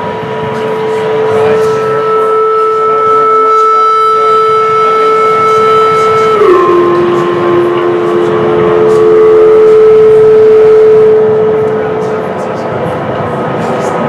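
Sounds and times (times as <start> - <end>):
electronic drone: 0.0 - 14.0.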